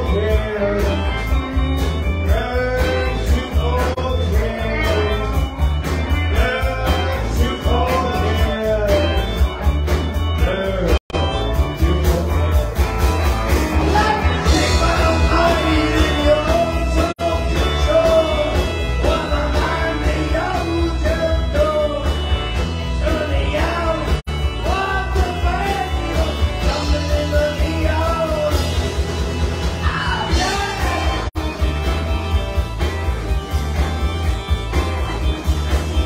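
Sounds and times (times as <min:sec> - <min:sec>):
man singing: 0:00.0 - 0:12.8, 0:13.7 - 0:31.5
drums: 0:00.0 - 0:36.0
electric guitars: 0:00.0 - 0:36.0
keyboard: 0:00.0 - 0:36.0.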